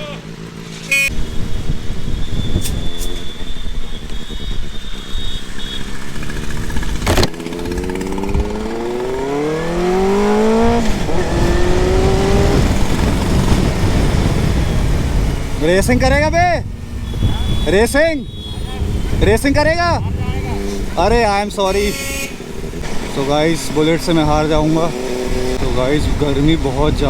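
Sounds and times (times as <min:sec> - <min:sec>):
motorcycle engine accelerating: 0:00.0 - 0:27.0
wind rushing over microphone: 0:01.1 - 0:05.0, 0:06.4 - 0:27.0.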